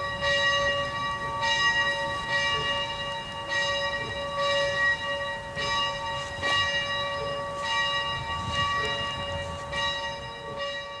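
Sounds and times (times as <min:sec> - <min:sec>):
locomotive bell ringing: 0:00.0 - 0:11.0.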